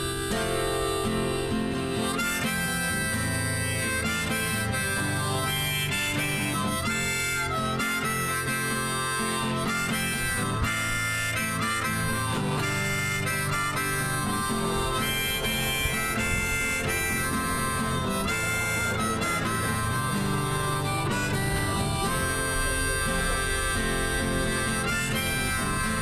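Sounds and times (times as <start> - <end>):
harmonica playing: 0.0 - 26.0
instrumental backing music: 0.0 - 26.0.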